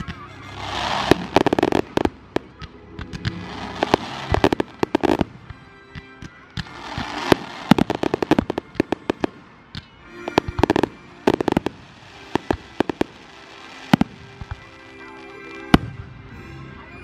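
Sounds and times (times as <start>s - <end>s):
fireworks hissing and crackling: 0.0s - 16.0s
fireworks bangs and cracks: 0.0s - 16.2s.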